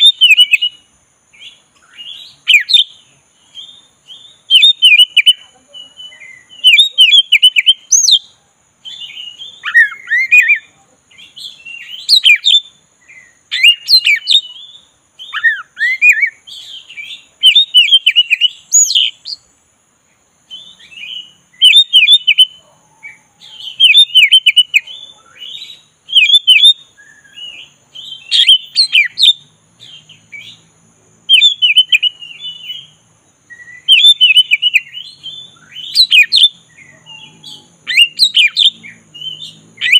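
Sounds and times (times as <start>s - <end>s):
bird singing whistles and trills: 0.0s - 19.5s, 20.4s - 39.9s.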